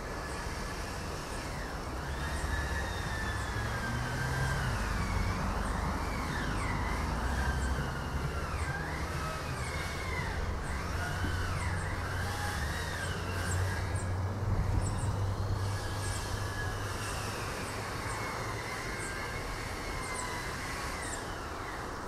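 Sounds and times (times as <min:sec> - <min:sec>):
wind rumbling on microphone: 0:00.0 - 0:21.4
palm leaves rustling: 0:00.0 - 0:22.0.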